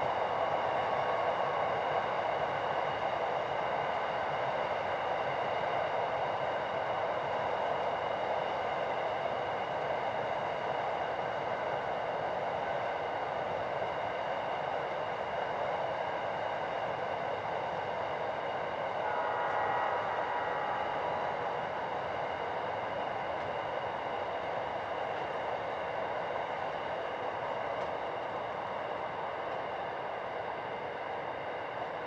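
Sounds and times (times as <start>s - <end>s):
distant train rolling: 0.0s - 32.0s.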